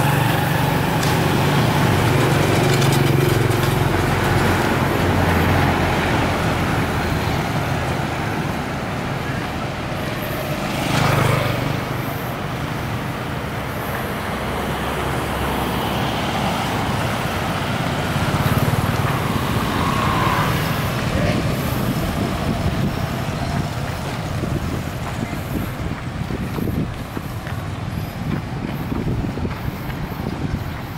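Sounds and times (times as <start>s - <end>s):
road traffic rumble: 0.0s - 30.9s.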